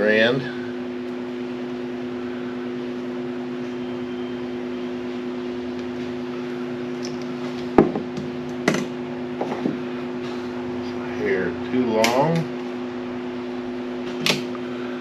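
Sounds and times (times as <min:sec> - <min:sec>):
motor electrical hum: 0:00.0 - 0:15.0.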